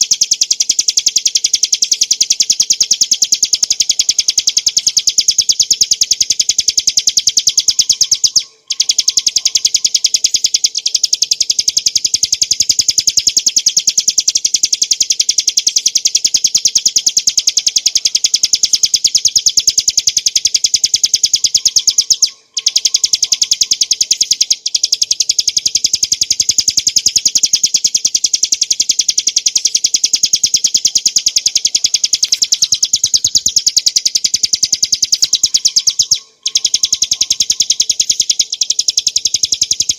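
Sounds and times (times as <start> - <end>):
small bird singing sharp notes: 0.0 - 39.9.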